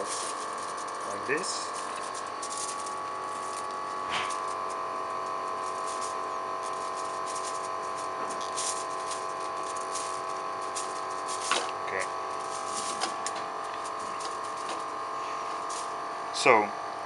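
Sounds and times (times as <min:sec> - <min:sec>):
cable tie clicks and rustles: 0:00.0 - 0:16.0
machine hum: 0:00.0 - 0:17.0.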